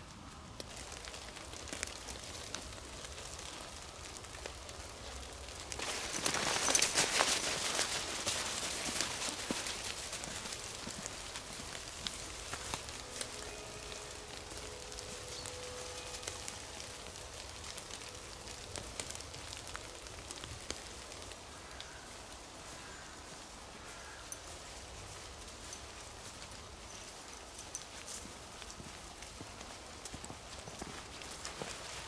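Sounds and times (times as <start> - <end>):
patter of small ticks: 0.5 - 32.0.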